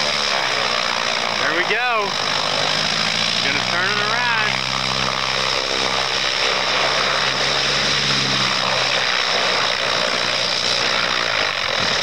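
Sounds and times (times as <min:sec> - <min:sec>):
light aircraft engine running: 0:00.0 - 0:12.0.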